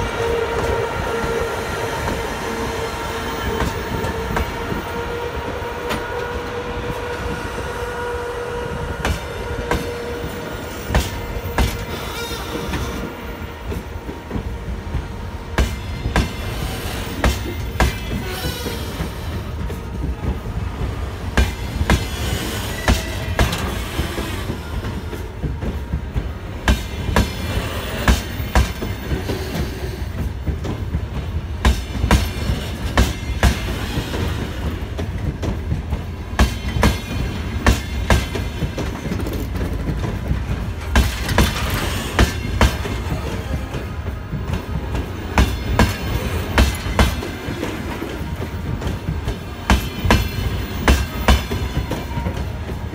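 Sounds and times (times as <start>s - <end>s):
train rumbling past: 0.0s - 52.9s.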